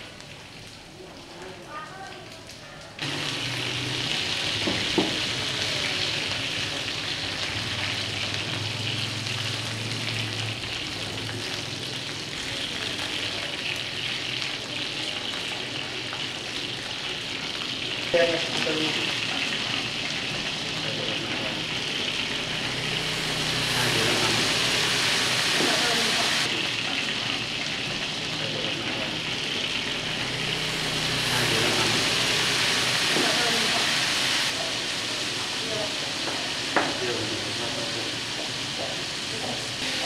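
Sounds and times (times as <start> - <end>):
chicken sizzling in hot oil: 0.0 - 40.0.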